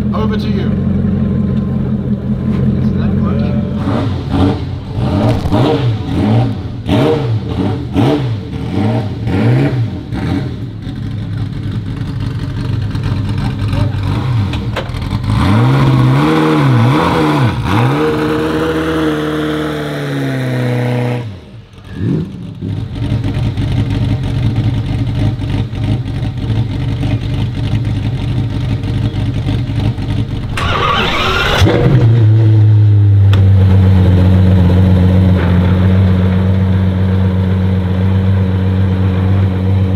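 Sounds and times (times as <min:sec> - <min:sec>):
engine running steadily: 0:00.0 - 0:18.9, 0:21.4 - 0:39.9
car engine revving: 0:00.7 - 0:39.9.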